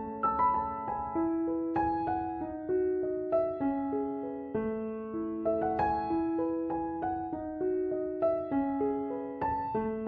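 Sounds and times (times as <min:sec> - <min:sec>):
gentle piano notes: 0:00.0 - 0:10.0.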